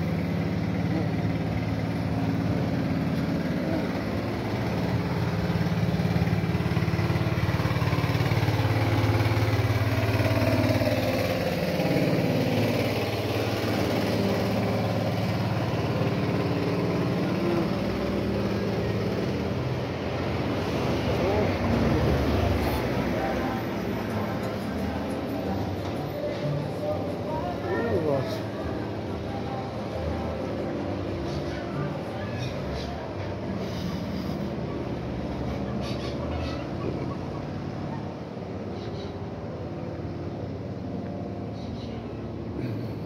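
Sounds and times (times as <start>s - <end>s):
truck engine running: 0.0s - 43.0s.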